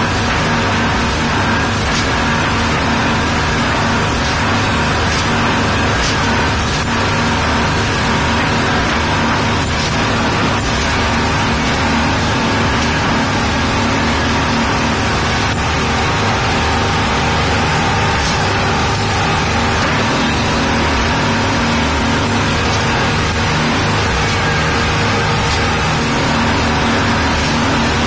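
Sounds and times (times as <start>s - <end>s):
speedboat engine drone: 0.0s - 28.0s.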